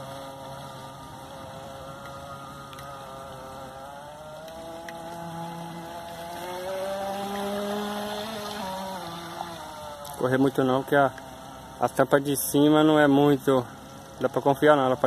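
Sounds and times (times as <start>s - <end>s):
model speedboat motor: 0.0s - 15.0s.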